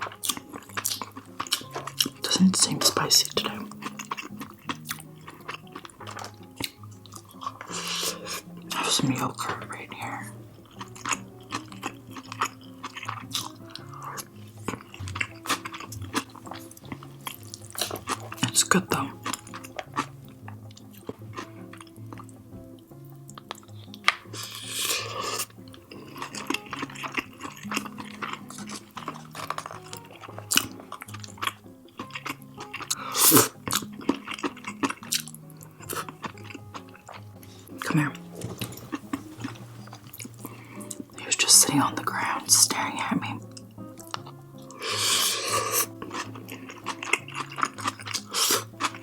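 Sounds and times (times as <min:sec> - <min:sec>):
close chewing with mouth clicks: 0:00.0 - 0:49.0
soft background music: 0:00.0 - 0:49.0.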